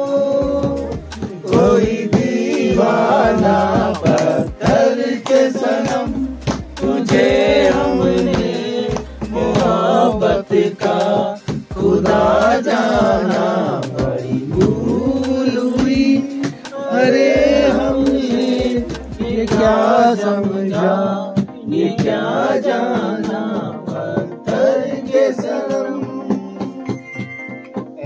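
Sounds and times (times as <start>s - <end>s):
men singing together: 0.0s - 27.0s.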